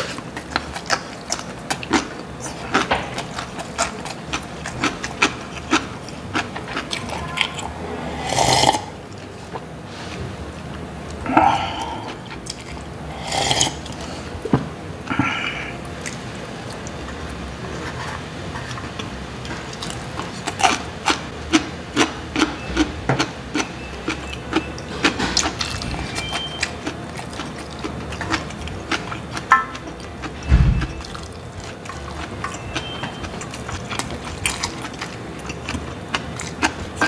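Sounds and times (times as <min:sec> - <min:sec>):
chewing: 0:00.0 - 0:09.7, 0:11.1 - 0:14.4, 0:15.2 - 0:37.0.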